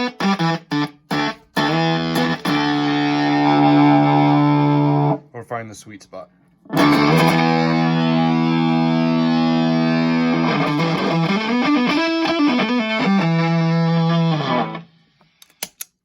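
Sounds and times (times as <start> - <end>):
fuzzy electric guitar: 0.0 - 5.2, 6.6 - 15.2.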